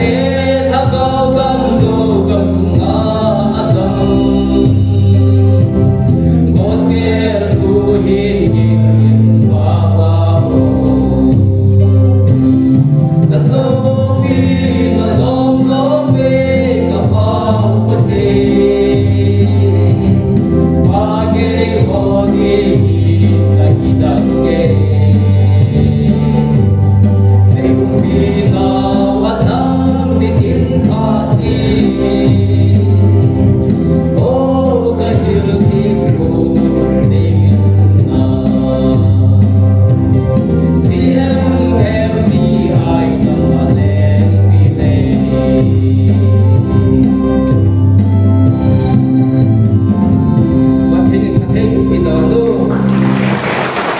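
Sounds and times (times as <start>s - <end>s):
group singing gospel song: 0.0s - 47.5s
bass line: 0.0s - 53.7s
instrumental backing with beat: 0.0s - 53.9s.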